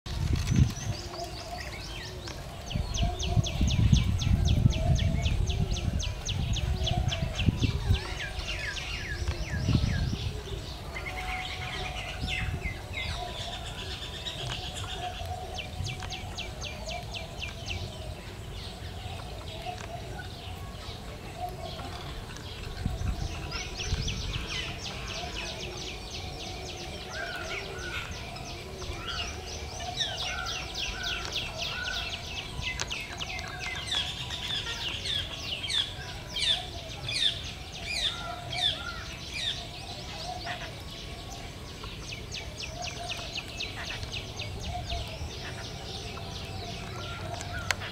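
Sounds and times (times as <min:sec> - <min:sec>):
birds chirping: 0:00.1 - 0:47.9.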